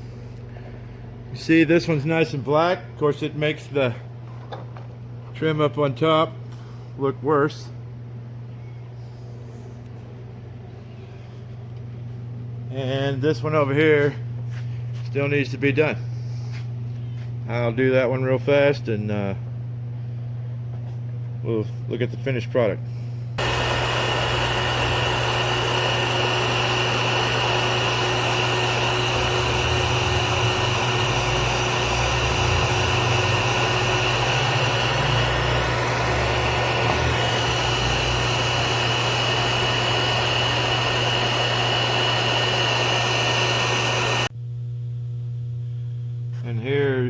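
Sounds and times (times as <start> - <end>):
heat gun fan humming: 0.0 - 47.0.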